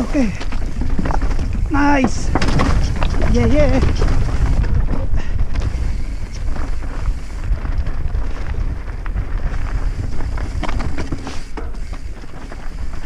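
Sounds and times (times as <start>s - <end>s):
knocks and rattles over stones: 0.0s - 13.0s
wind buffeting microphone: 0.0s - 13.0s.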